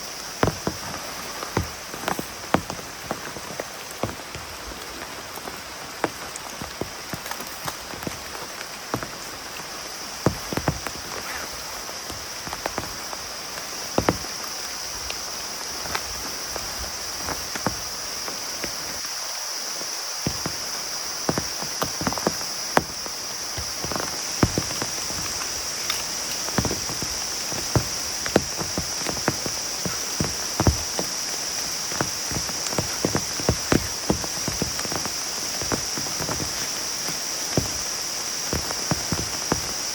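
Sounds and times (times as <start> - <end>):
heavy rain hissing: 0.0 - 39.9
large raindrops tapping: 0.0 - 39.9.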